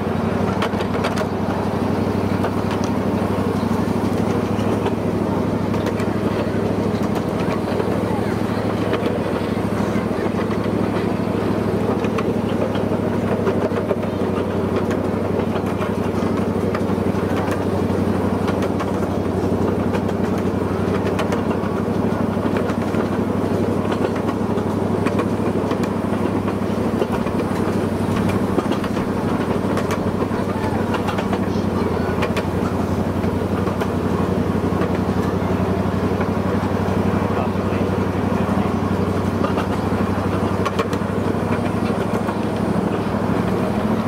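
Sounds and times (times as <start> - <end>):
miniature train engine running: 0.0 - 44.0.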